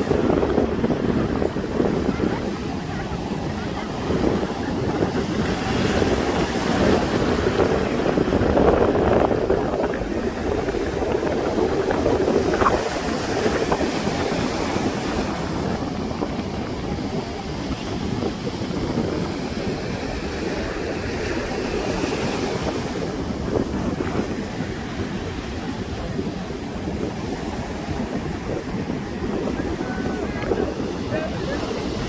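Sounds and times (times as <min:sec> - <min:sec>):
waves breaking on beach: 0:00.0 - 0:32.0
wind buffeting microphone: 0:00.0 - 0:32.0.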